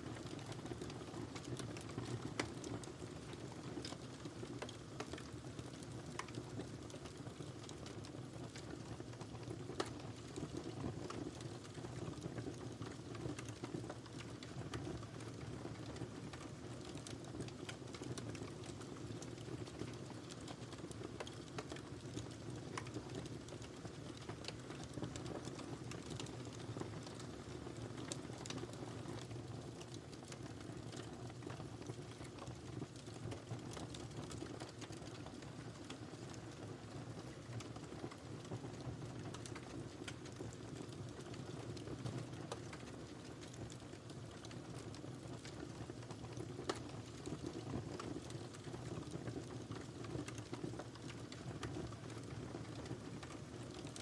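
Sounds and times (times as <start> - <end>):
fire rumbling in fireplace: 0.0 - 54.0
firewood crackling and popping: 0.0 - 54.0.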